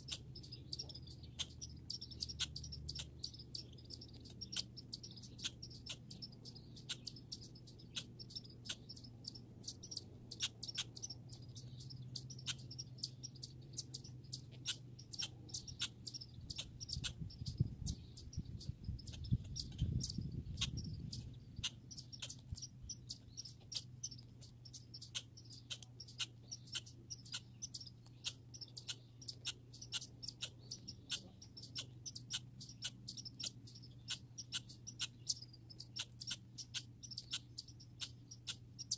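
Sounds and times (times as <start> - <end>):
faint low hum: 0.0 - 38.9
squirrel clicking: 0.0 - 38.9.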